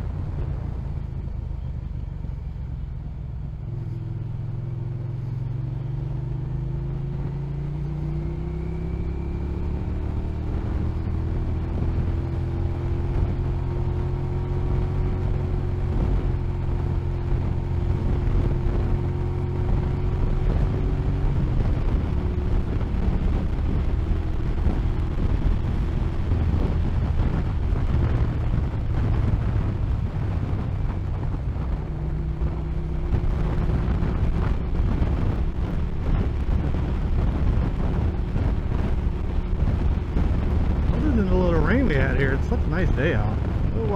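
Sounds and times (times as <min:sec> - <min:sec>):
wind noise: 0:00.0 - 0:01.2, 0:06.8 - 0:43.9
motorcycle engine running: 0:00.0 - 0:43.9.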